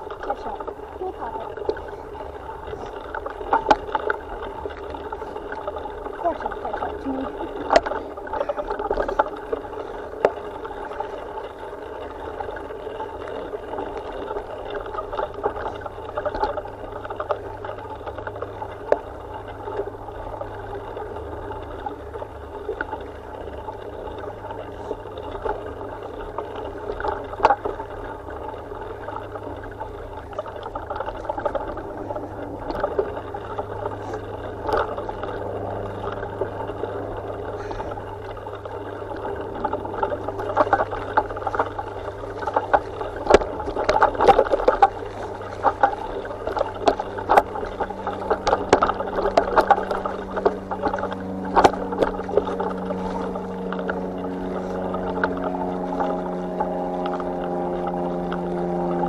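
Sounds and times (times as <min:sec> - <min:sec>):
bike wheels rolling over dirt: 0:00.0 - 0:59.0.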